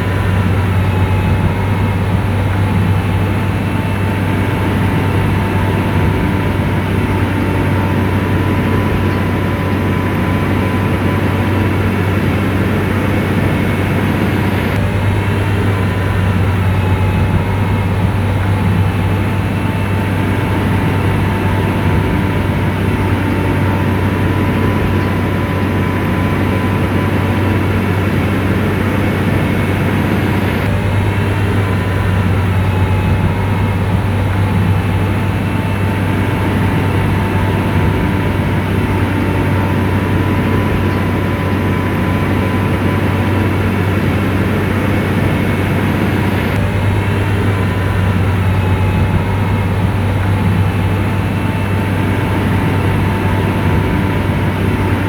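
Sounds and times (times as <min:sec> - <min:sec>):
bulldozer diesel engine droning: 0:00.0 - 0:55.0
faint whining tones: 0:00.0 - 0:55.0.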